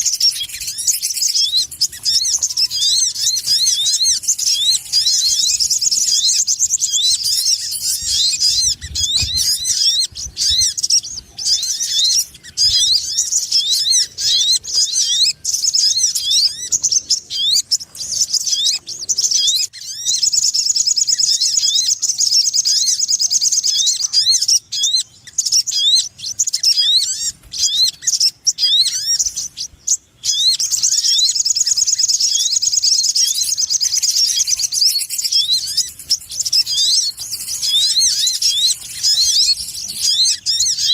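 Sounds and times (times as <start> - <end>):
rapid high bird chirping and trilling: 0.0 - 40.9.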